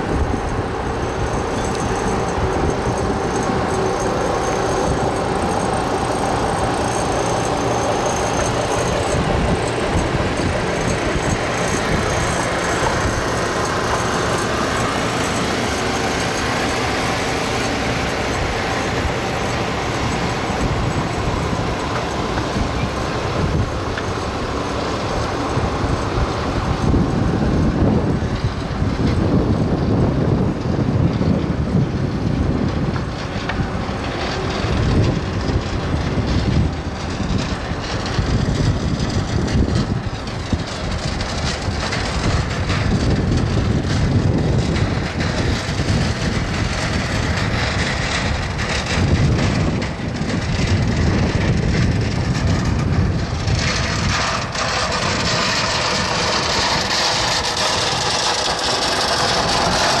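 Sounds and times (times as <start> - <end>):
forklift engine running: 0.0 - 60.0
wind rumbling on microphone: 0.0 - 60.0.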